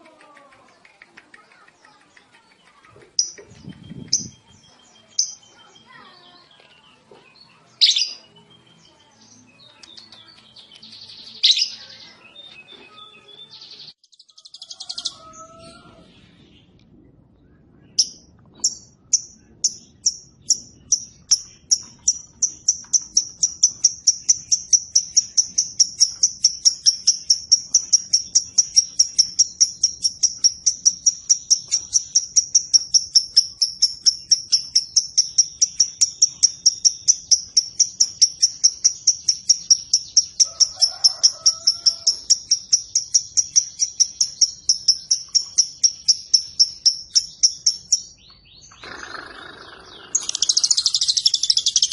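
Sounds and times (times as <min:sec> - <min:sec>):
bird sharp high chirps: 0:01.4 - 0:15.8, 0:17.9 - 0:51.9.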